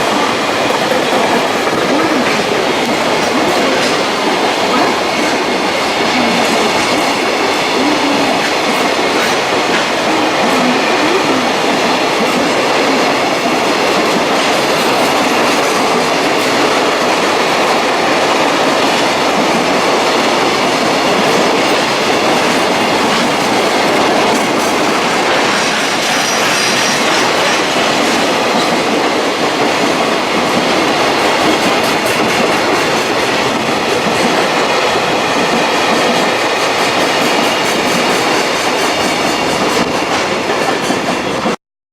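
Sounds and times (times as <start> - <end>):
train wheels on track: 0.0 - 41.6.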